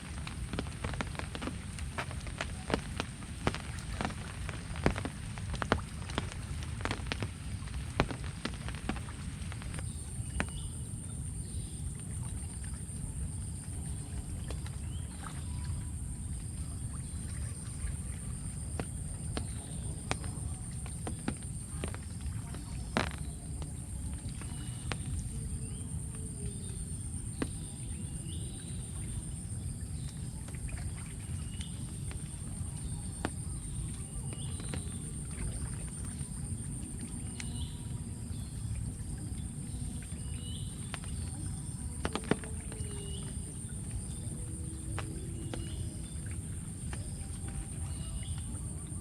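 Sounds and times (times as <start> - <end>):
rushing water: 0.0 - 49.0.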